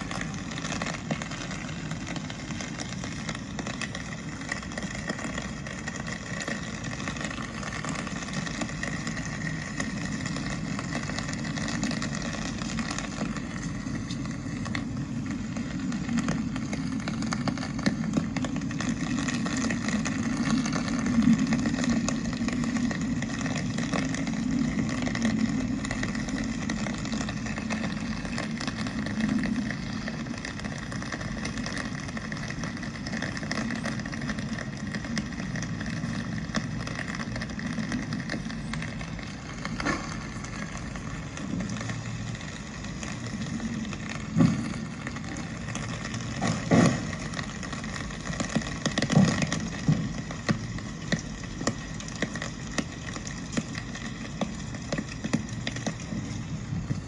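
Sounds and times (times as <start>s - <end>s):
faint rain patter: 0.0s - 57.0s
traffic on wet road: 0.0s - 57.0s.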